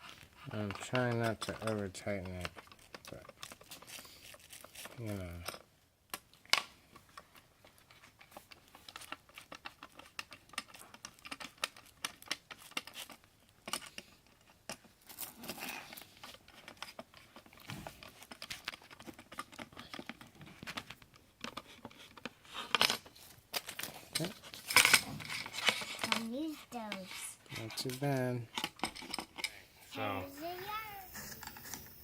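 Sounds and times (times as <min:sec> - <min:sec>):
rustling of parts: 0:00.0 - 0:32.0.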